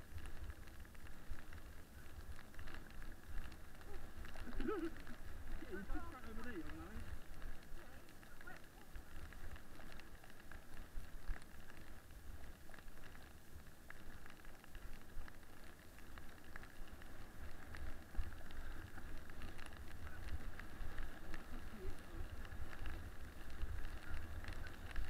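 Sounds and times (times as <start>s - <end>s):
toboggan runners hissing on snow: 0.0s - 25.0s.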